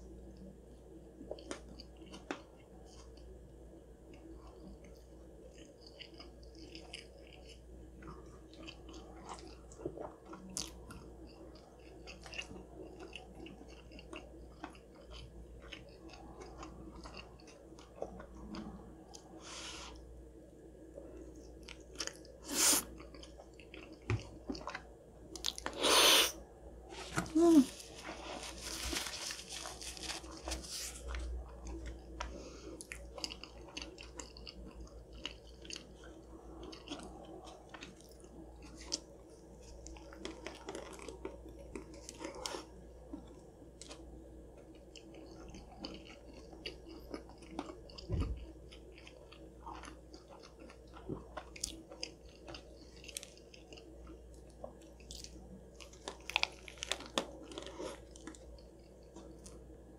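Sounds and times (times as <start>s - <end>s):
chewing with moist clicks: 0.2s - 19.4s, 20.8s - 25.8s, 31.0s - 59.9s.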